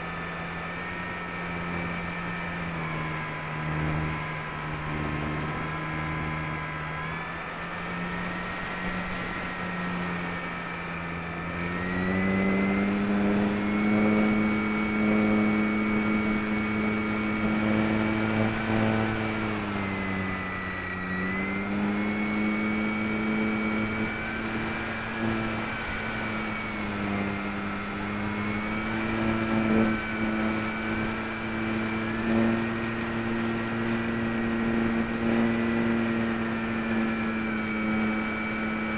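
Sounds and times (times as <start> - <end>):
electric motor propeller droning: 0.0 - 38.9
faint high whine: 0.0 - 38.9.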